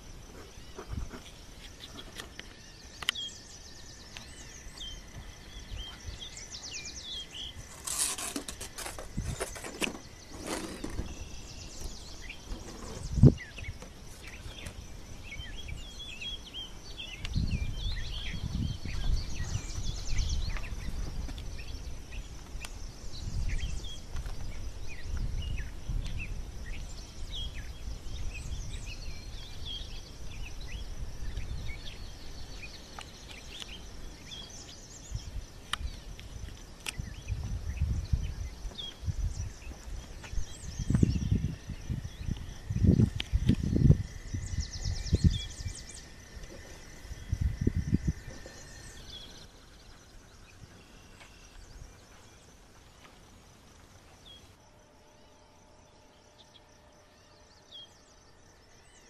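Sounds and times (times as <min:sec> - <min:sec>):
high insect buzz: 0:00.0 - 0:59.0
small birds chirping: 0:00.0 - 0:59.0
wind rumble on microphone: 0:03.2 - 0:53.0.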